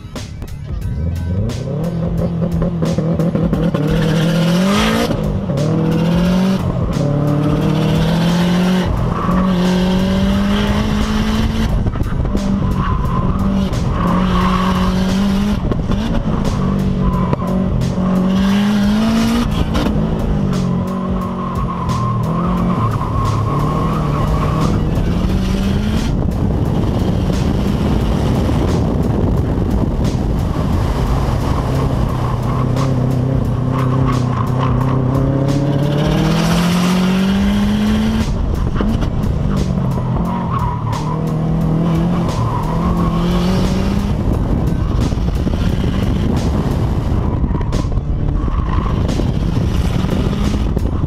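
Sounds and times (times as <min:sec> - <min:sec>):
car engine revving hard: 0:01.2 - 0:51.0.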